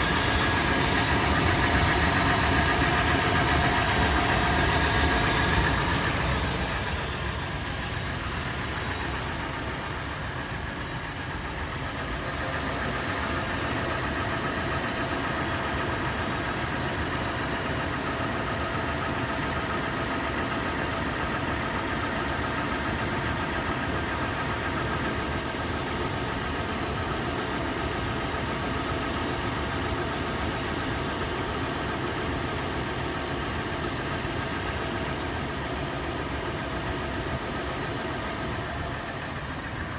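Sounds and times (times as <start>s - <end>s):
engine idling with clattering tap: 0.0s - 39.9s.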